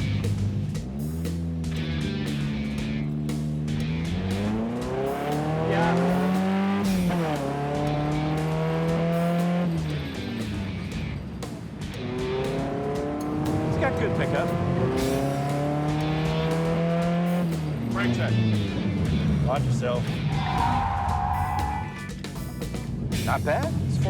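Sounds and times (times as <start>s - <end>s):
race car engine accelerating: 0.0s - 24.0s.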